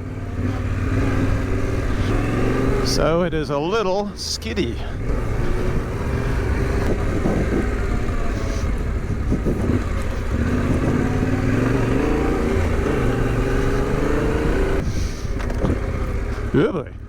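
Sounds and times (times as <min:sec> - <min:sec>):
motorcycle engine revving: 0:00.0 - 0:03.4, 0:04.2 - 0:17.0.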